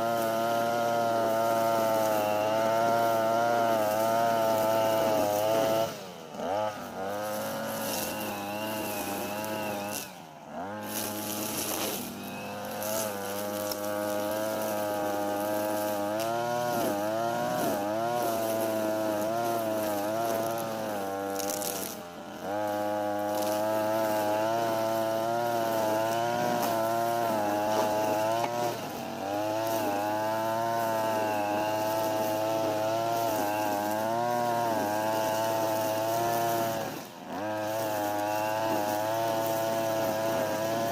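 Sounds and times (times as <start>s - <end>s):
brush cutter engine running: 0.0s - 40.9s.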